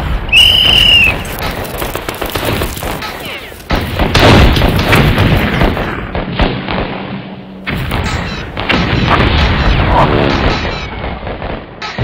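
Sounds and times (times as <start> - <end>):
shell explosions booming: 0.0 - 12.0
gunfire: 0.5 - 12.0.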